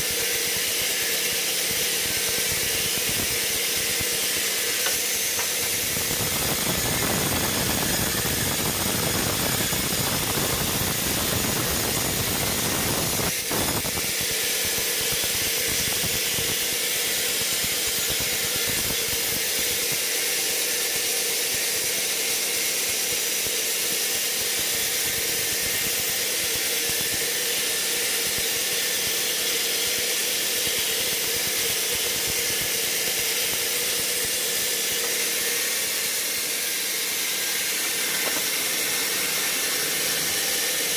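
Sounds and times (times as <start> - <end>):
sawmill machinery hiss and whine: 0.0 - 40.9.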